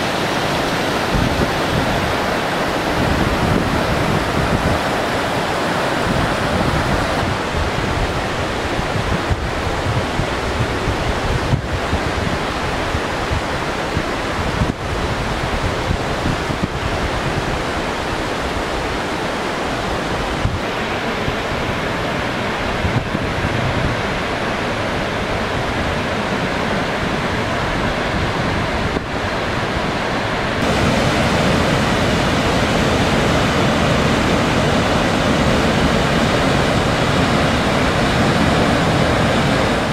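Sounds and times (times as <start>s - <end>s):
river rapids roaring: 0.0s - 39.9s.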